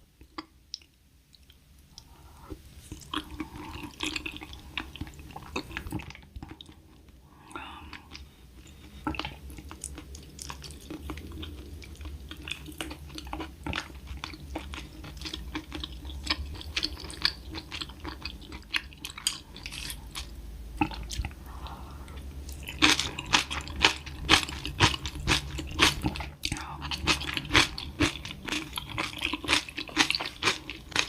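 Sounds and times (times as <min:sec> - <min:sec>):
person chewing and crunching: 0:02.9 - 0:31.0.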